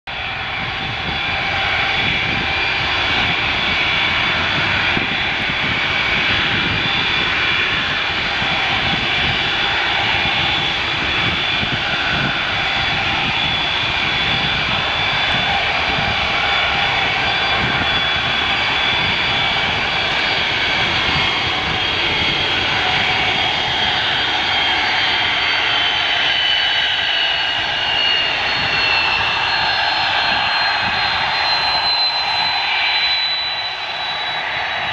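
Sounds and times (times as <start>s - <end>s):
jet engines taxiing with whine: 0.1s - 34.9s.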